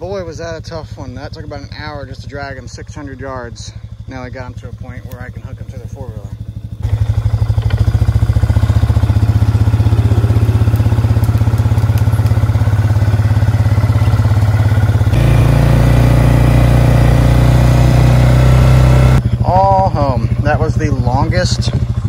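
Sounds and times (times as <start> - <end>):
atv engine running at low speed: 0.0 - 22.0.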